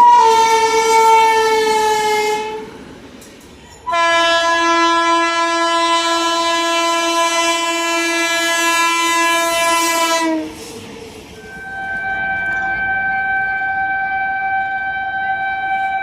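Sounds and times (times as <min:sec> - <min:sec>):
locomotive horn blast: 0:00.0 - 0:02.8, 0:03.8 - 0:10.6, 0:11.4 - 0:16.0.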